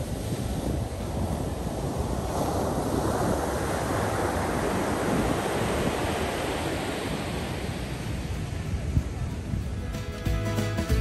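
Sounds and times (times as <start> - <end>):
wind buffeting microphone: 0.0 - 10.3
surf washing onto beach: 0.0 - 11.0.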